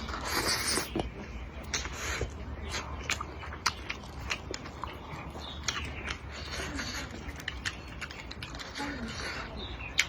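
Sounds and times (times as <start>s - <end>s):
person chewing and biting food: 0.0s - 10.0s.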